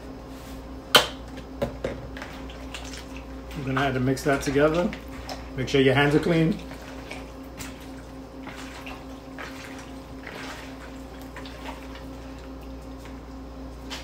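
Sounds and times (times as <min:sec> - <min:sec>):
steady low hum: 0:00.0 - 0:14.0
wet squishes of raw meat: 0:02.2 - 0:14.0.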